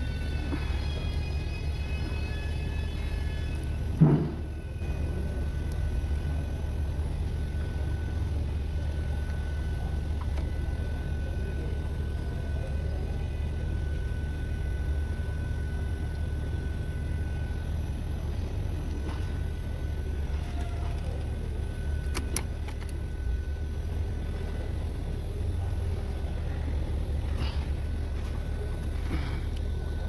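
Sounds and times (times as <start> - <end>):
car engine rumbling: 0.0 - 30.0
faint steady whine: 0.0 - 30.0.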